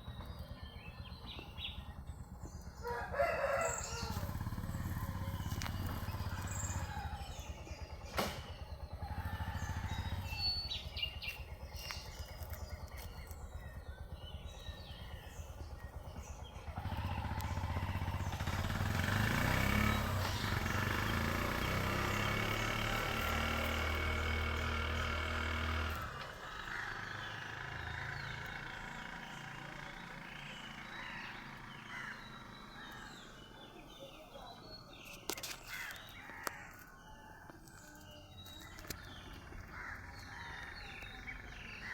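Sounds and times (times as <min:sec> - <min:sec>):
motor running with low rumble: 0:00.0 - 0:41.9.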